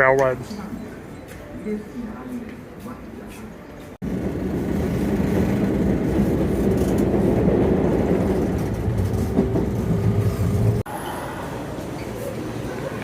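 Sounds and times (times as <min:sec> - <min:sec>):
commuter train rumbling: 0:00.0 - 0:13.0.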